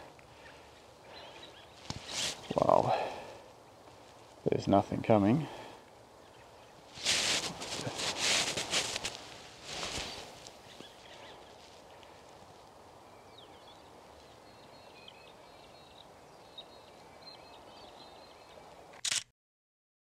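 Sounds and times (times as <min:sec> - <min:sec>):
small birds calling: 0:00.0 - 0:04.3, 0:05.8 - 0:18.9
outdoor dawn ambience: 0:00.0 - 0:19.2.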